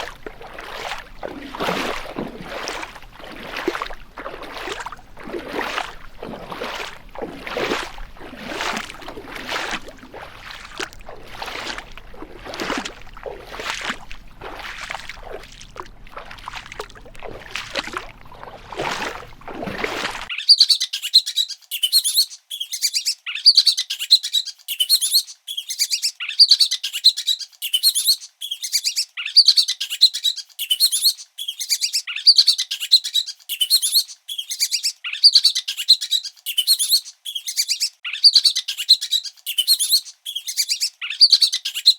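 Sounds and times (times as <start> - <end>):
birds chirping: 0.0 - 10.6, 18.0 - 41.9.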